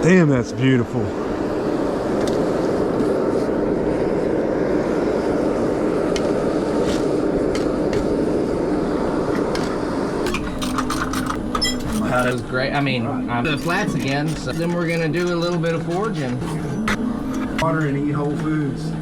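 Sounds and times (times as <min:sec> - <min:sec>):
forge burner rushing: 0:00.0 - 0:19.0.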